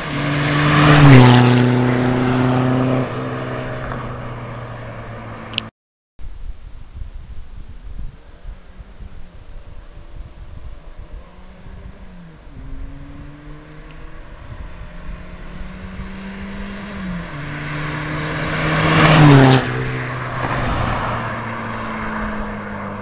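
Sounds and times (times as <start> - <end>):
diesel cars accelerating: 0.0 - 5.7, 8.7 - 23.0.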